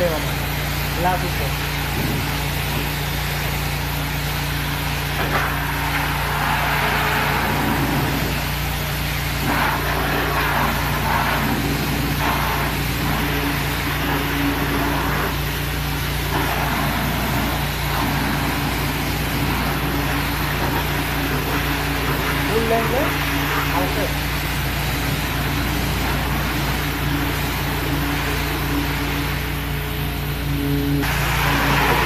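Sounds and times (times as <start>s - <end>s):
hissing noise: 0.0s - 32.0s
motor humming: 0.0s - 32.0s.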